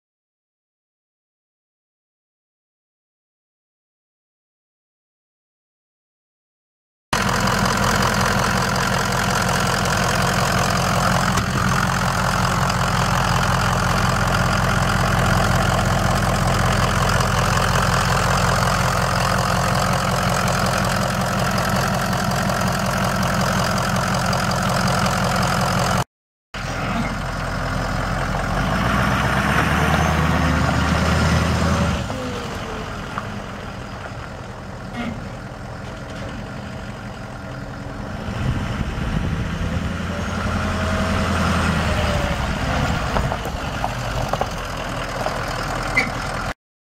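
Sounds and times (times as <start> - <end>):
diesel truck engine clattering: 7.2 - 26.0, 26.6 - 46.6.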